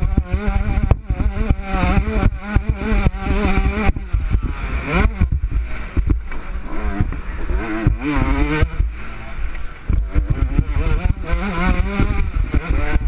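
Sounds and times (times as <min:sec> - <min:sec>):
motocross engine revving: 0:00.0 - 0:13.0
wind rumble: 0:00.0 - 0:13.0.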